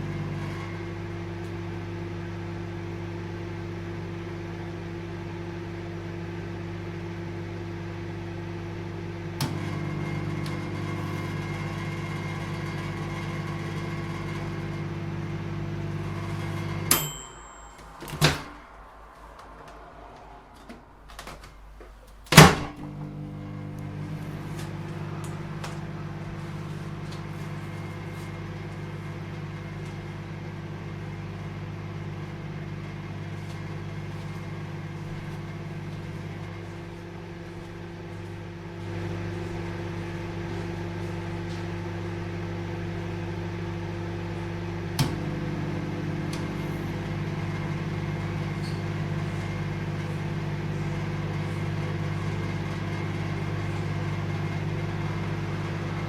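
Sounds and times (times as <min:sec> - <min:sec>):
microwave oven humming: 0:00.0 - 0:19.4, 0:20.0 - 0:56.0.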